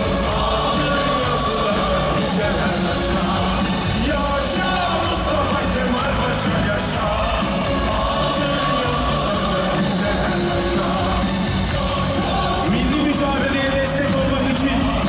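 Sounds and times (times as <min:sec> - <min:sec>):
loud music with singing: 0:00.0 - 0:15.0.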